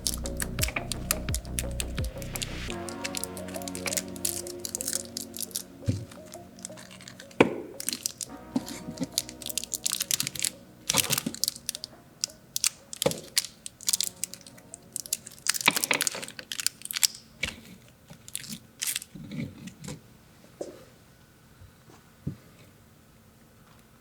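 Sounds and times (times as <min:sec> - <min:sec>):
packaging crinkling: 0:00.0 - 0:19.3.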